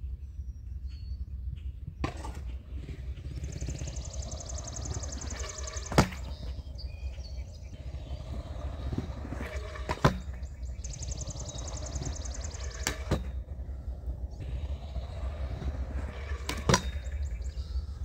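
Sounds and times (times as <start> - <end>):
scooter landing clacks: 1.9 - 17.6
scooter wheels rolling on concrete: 1.9 - 18.0.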